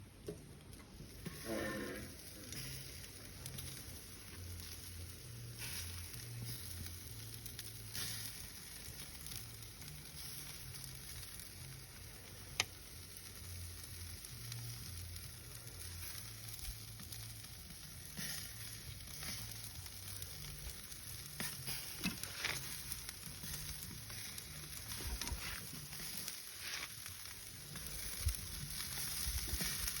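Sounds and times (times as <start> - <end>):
food sizzling on grill: 0.9 - 30.0.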